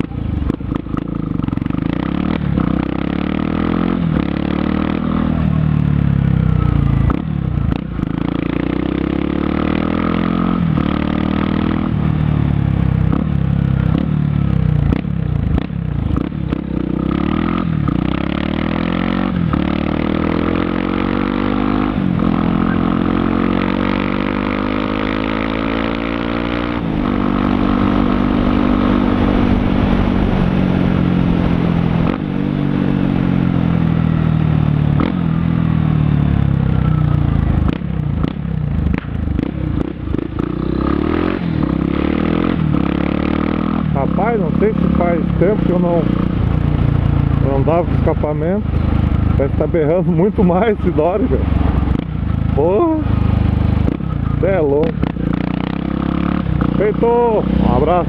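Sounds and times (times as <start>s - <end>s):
motorcycle engine revving loud: 0.0s - 58.0s.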